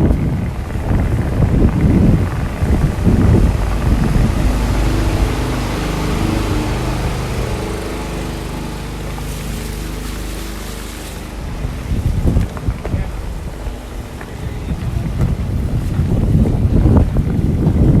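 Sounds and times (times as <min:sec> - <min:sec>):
wind buffeting microphone: 0:00.0 - 0:18.0
vehicle engine passing: 0:00.2 - 0:17.0.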